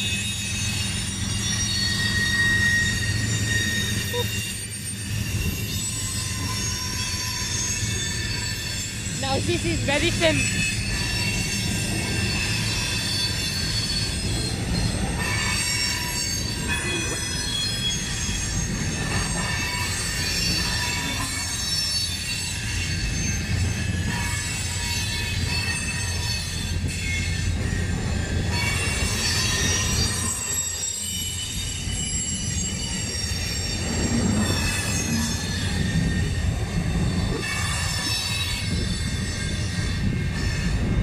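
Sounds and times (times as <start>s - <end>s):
high-pitched wheel squeal: 0.0s - 41.0s
train wheels rumbling on rail: 0.0s - 41.0s.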